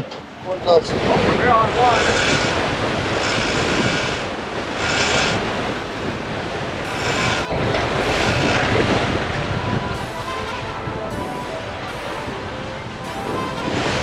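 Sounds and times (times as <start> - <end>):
churning wake water: 0.0 - 14.0
outboard motors running: 0.0 - 14.0
wind buffeting microphone: 0.0 - 14.0.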